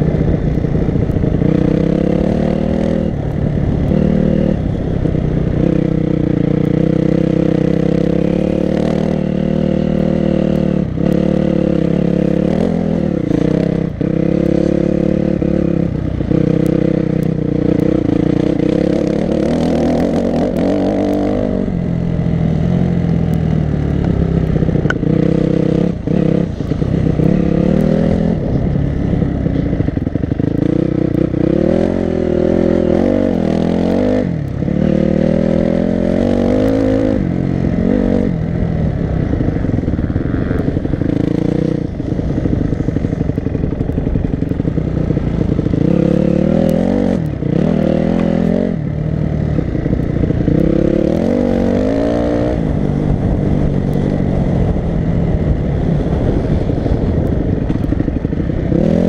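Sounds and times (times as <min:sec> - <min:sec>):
dirt bike engine revving: 0:00.9 - 0:21.7, 0:24.7 - 0:38.4, 0:39.2 - 0:59.0.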